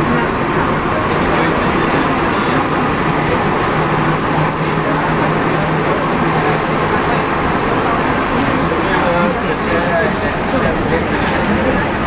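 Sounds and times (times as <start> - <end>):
metro train rumble and hiss: 0.0 - 12.0
steady hum: 0.0 - 12.0.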